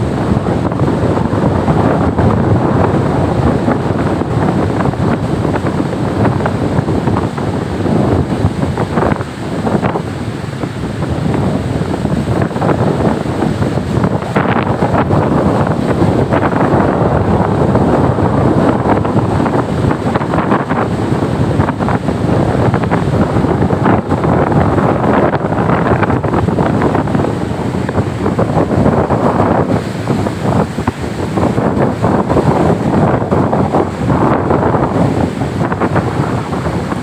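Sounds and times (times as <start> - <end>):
strong wind on microphone: 0.0 - 37.0
surf breaking on shore: 0.0 - 37.0.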